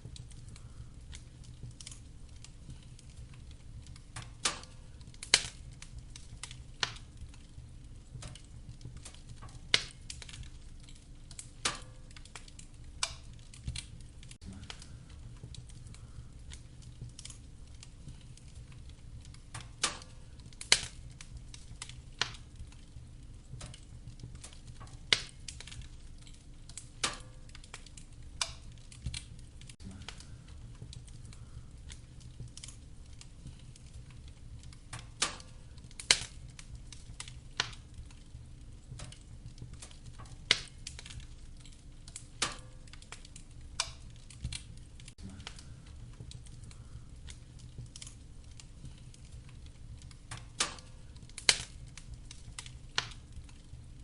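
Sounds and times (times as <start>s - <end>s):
fire low rumble: 0.0s - 54.0s
firewood popping and snapping: 0.0s - 54.0s.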